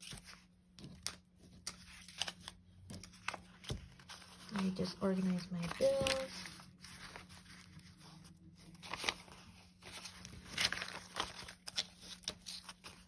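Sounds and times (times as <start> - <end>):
paper banknotes rustling: 0.0 - 13.0.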